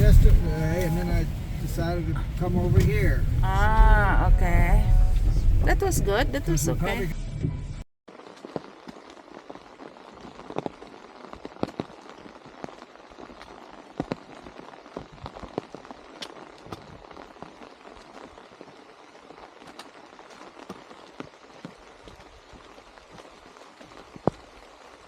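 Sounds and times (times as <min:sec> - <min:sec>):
raindrops ticking close by: 0:00.0 - 0:07.1, 0:08.1 - 0:25.0
steady rain: 0:00.0 - 0:07.1, 0:08.1 - 0:25.0.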